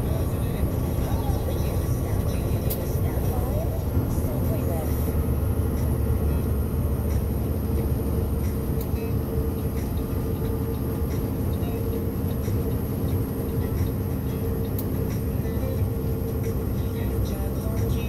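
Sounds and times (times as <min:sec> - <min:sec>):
road rumble: 0:00.0 - 0:18.0
truck diesel engine drone: 0:00.0 - 0:18.0.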